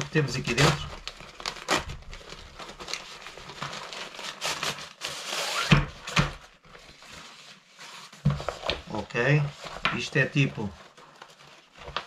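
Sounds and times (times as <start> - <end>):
crinkling rustle: 0.0 - 5.6, 6.4 - 12.0.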